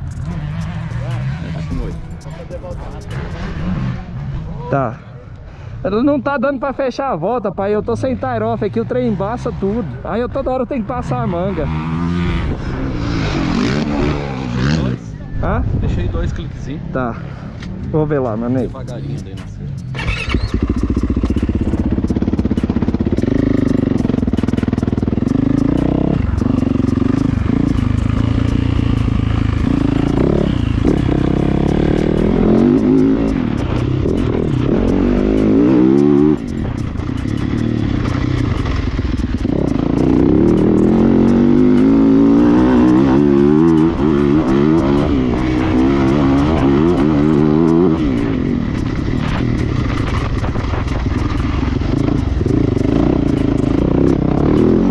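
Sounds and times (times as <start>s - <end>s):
motocross bike engine revving: 0.0s - 4.6s, 7.8s - 15.1s, 18.2s - 54.9s.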